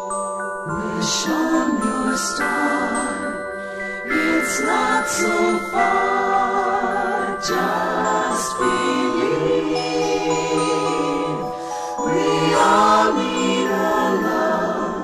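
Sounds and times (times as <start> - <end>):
choir singing held chords: 0.6 - 15.0.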